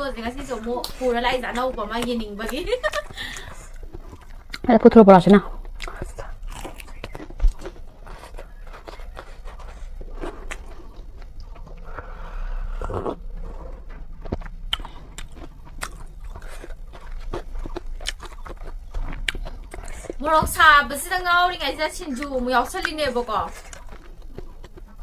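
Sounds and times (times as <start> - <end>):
person chewing noodles: 0.1 - 4.7, 5.3 - 20.3, 21.7 - 25.0.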